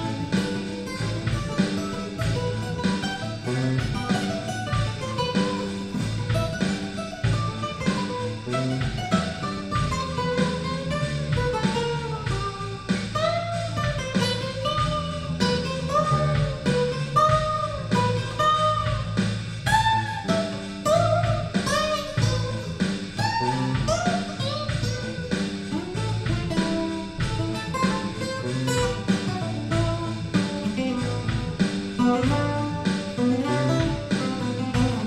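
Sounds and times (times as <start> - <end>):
acoustic guitar lead solo: 0.0 - 35.0
funky bass and drums: 0.0 - 35.0.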